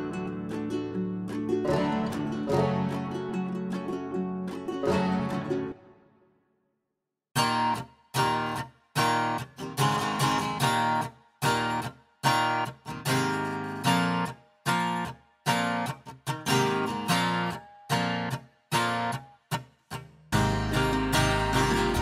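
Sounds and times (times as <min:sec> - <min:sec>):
guitar strumming chords: 0:00.0 - 0:06.1, 0:07.4 - 0:22.0.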